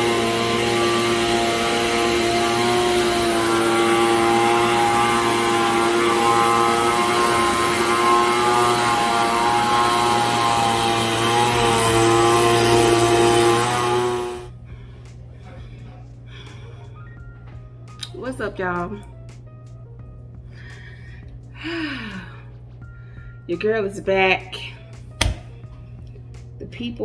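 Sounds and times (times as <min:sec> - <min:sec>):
air blower fan drone: 0:00.0 - 0:23.7.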